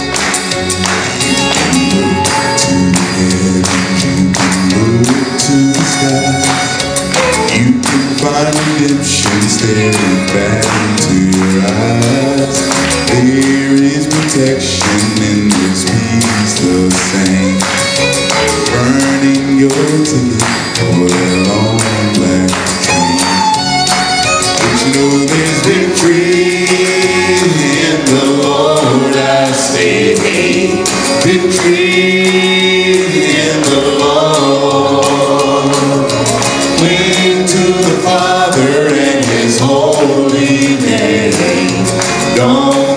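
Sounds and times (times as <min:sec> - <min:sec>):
backing track with steady beat: 0:00.0 - 0:42.9
male vocal group singing: 0:01.2 - 0:18.0, 0:18.6 - 0:23.6, 0:24.6 - 0:42.9.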